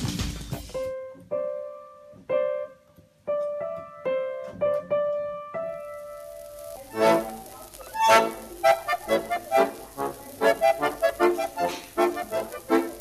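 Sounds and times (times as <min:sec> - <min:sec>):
single piano notes: 0:00.7 - 0:13.0.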